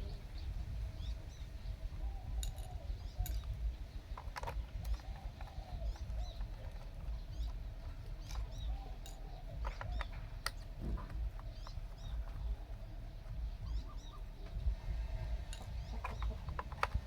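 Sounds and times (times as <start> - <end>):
faint steady hum: 0.0 - 17.0
low rumble: 0.0 - 17.0
small birds chirping: 0.0 - 17.0
sharp clicks: 2.4 - 14.7, 15.4 - 17.0.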